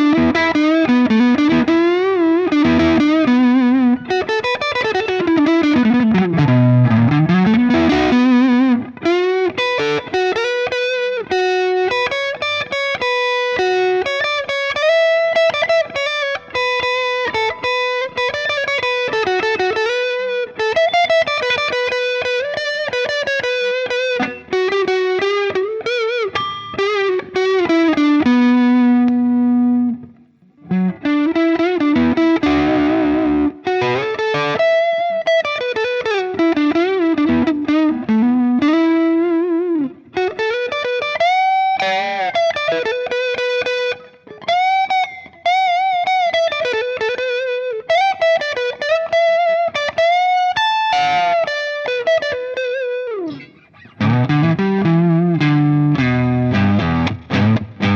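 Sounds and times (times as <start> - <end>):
overdriven electric guitar lead: 0.0 - 57.9.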